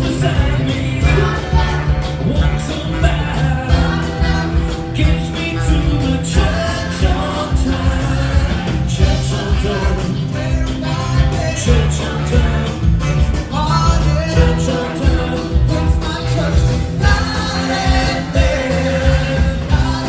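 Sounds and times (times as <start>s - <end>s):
person singing: 0.0s - 20.0s
rock band playing: 0.0s - 20.0s.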